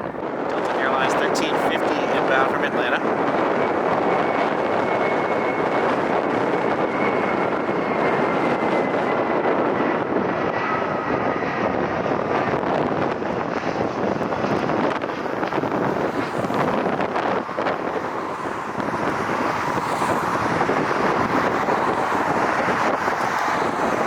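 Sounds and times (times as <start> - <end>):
jet airliner engines running: 0.0 - 24.0
wind noise on microphone: 0.0 - 24.0.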